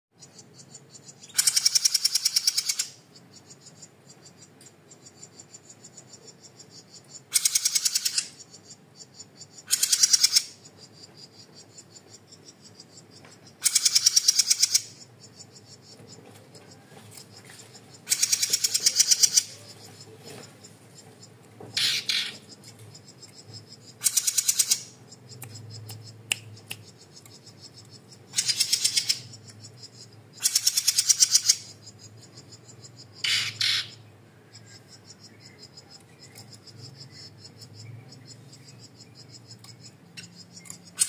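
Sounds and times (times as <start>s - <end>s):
songbird rattling calls: 0.2s - 41.0s.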